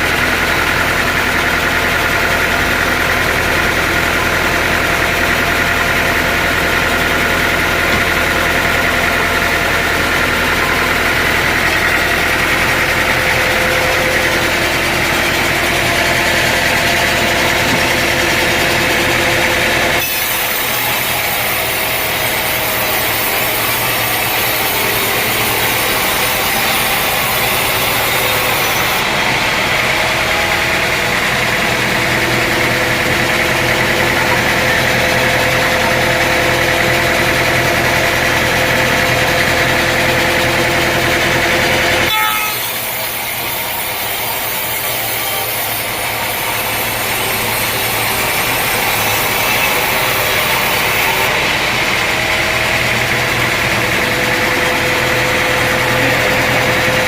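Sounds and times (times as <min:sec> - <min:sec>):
saw cutting wood: 0:00.0 - 0:57.0
sawmill engine running: 0:00.0 - 0:57.0.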